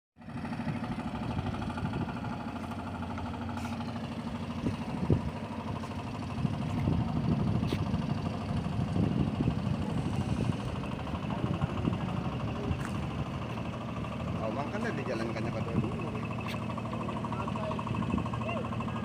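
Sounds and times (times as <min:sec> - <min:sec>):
engine idling: 0:00.2 - 0:19.0.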